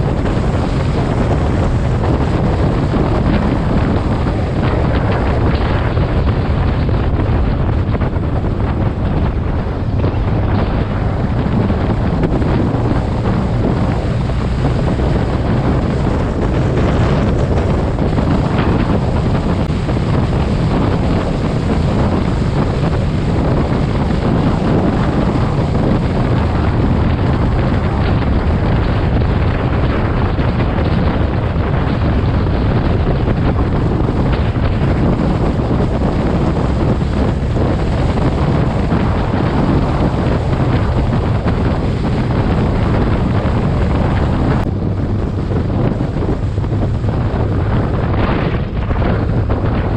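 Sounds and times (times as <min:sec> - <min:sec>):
motorcycle engine and road noise: 0:00.0 - 0:49.9
wind rushing over microphone: 0:00.0 - 0:49.9.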